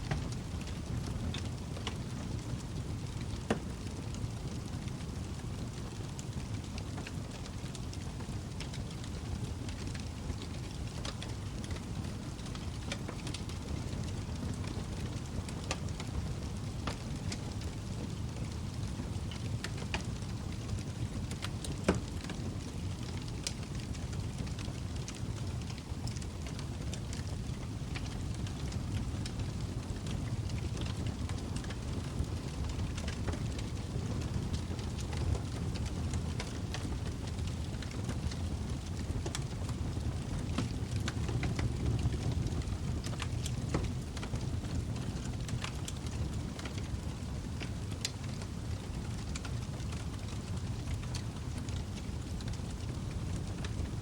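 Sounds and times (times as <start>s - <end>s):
log fire crackling: 0.1s - 54.0s.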